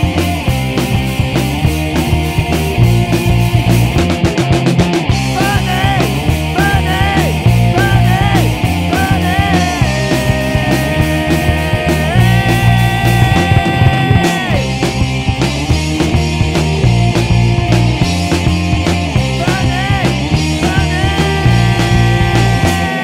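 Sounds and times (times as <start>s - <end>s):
drum fill: 0.0s - 23.0s
lead guitar with string bends: 0.0s - 23.0s
rock band playing: 0.0s - 23.0s.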